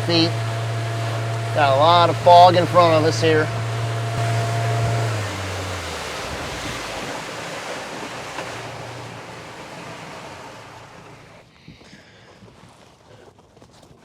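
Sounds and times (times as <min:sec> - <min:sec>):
outboard motor drone: 0:00.0 - 0:12.6
wind and water rushing past boat: 0:00.0 - 0:14.0.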